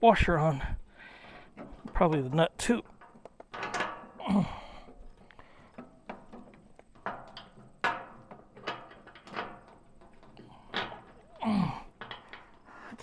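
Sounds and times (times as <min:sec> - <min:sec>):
metal hardware knocking and clinking: 0:01.2 - 0:13.0.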